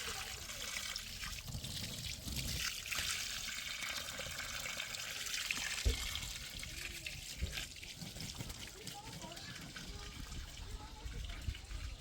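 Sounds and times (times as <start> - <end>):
water running and trickling: 0.0 - 12.0.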